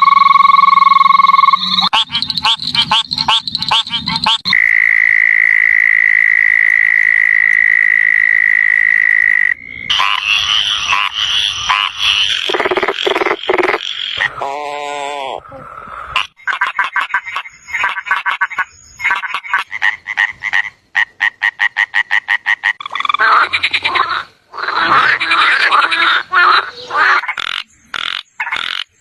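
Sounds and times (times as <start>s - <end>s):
frogs calling: 0.0s - 29.0s.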